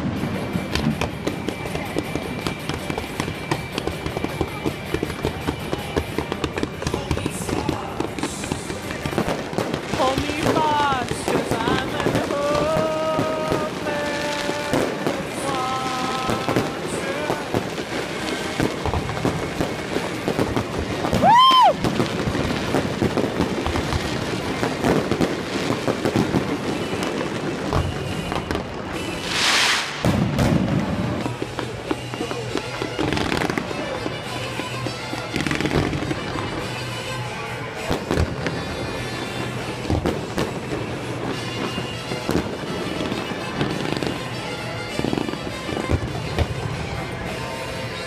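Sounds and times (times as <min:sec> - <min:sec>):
fireworks crackling and popping: 0:00.0 - 0:48.0
high firework whistle: 0:07.6 - 0:48.0.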